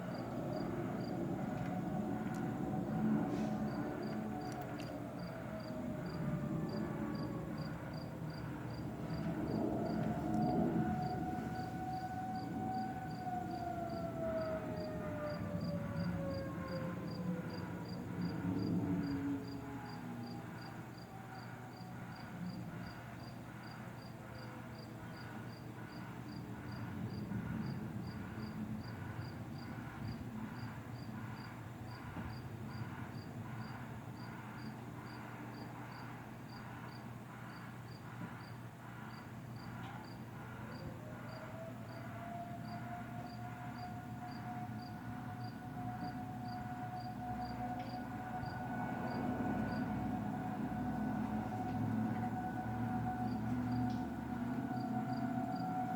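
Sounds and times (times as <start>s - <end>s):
distant warning sirens: 0.0s - 55.9s.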